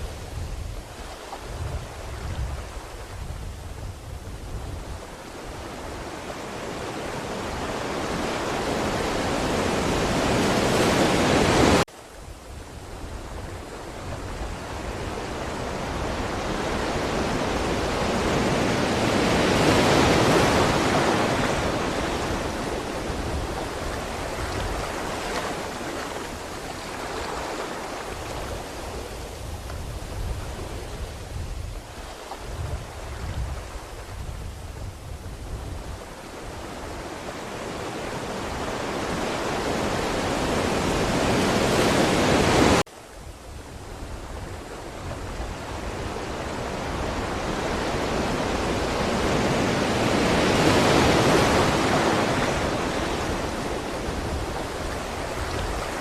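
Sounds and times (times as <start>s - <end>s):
ocean waves breaking: 0.0s - 11.9s, 12.9s - 42.9s, 43.7s - 56.0s.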